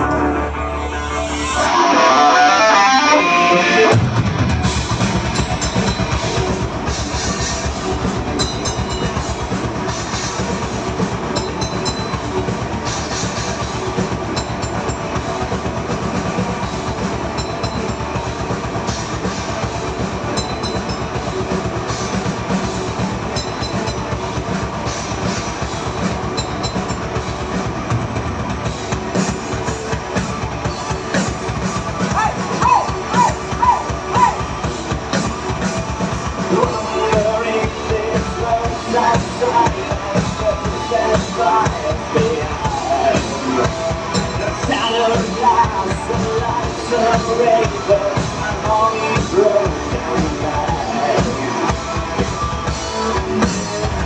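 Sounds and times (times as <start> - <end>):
bass guitar: 0.0 - 54.0
distorted electric guitars: 0.0 - 54.0
fast drums: 3.8 - 54.0.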